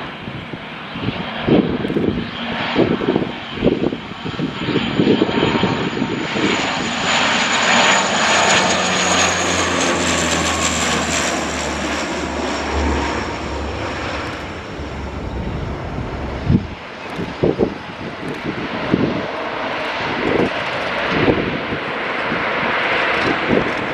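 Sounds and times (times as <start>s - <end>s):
aircraft engine roar with whine: 0.0s - 23.9s.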